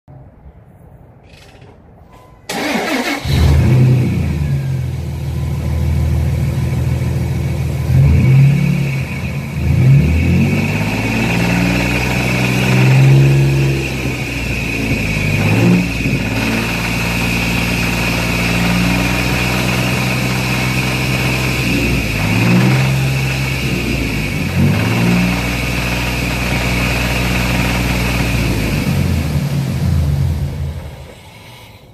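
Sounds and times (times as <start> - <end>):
engine revving: 2.5 - 31.2
car engine starting and idling: 2.5 - 31.9.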